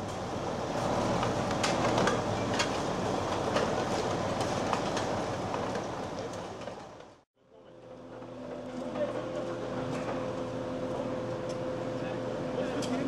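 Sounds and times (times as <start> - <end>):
crane engine and hydraulics rumbling: 0.0 - 13.0.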